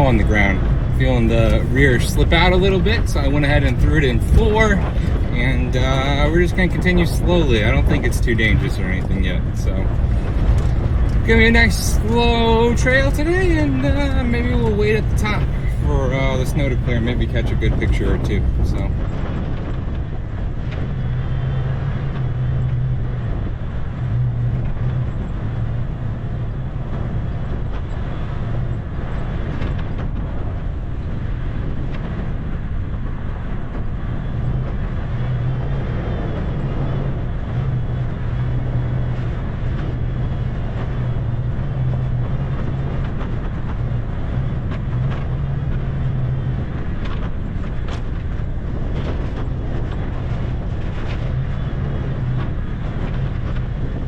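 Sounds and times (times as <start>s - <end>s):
rumbling vehicle noise: 0.0s - 54.0s
vehicle engine low drone: 0.0s - 54.0s.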